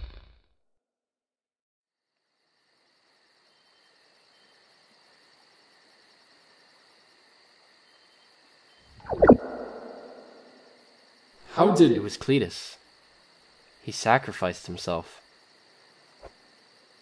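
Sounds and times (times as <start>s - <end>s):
crickets chirping: 2.2s - 17.0s.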